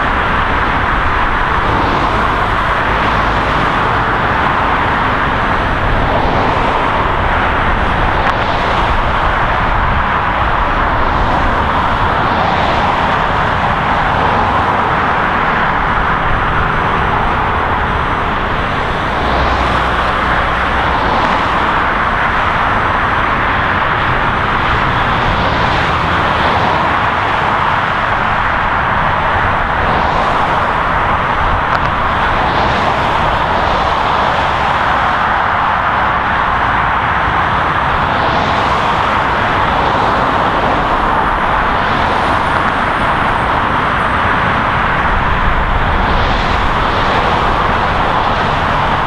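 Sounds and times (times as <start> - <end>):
highway traffic roar: 0.0 - 49.0.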